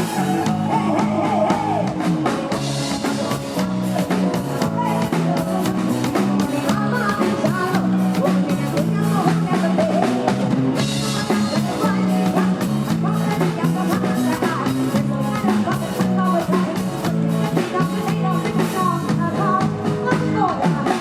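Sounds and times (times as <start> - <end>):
repeating bass line: 0.0 - 19.9
live band music: 0.0 - 21.0
steady drum beat: 0.0 - 21.0.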